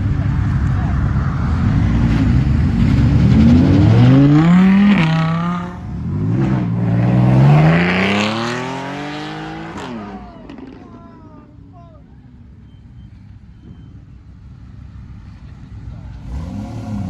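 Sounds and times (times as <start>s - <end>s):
car engine revving: 0.0s - 12.0s, 14.5s - 17.0s.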